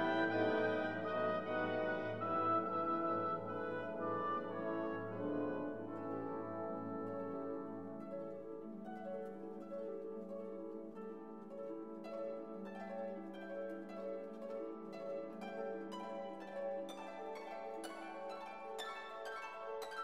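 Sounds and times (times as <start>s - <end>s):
plucked harp-like notes: 0.0s - 20.0s.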